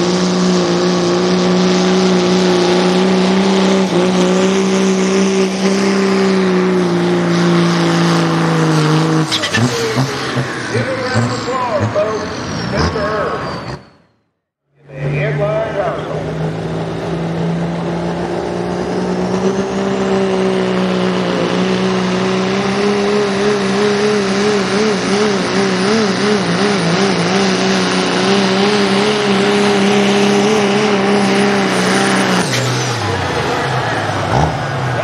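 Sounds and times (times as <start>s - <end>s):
diesel truck engine at full power: 0.0s - 35.0s.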